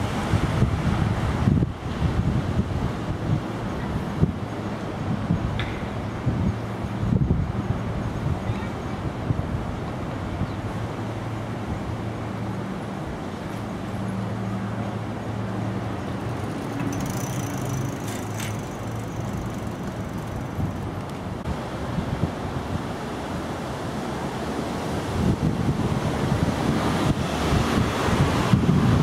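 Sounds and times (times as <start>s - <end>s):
traffic engine hum: 0.0s - 29.0s.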